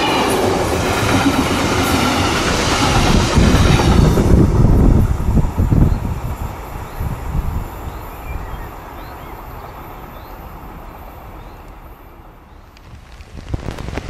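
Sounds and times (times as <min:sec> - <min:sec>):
freight train rumble: 0:00.0 - 0:14.0
wind-like noise: 0:00.0 - 0:14.0.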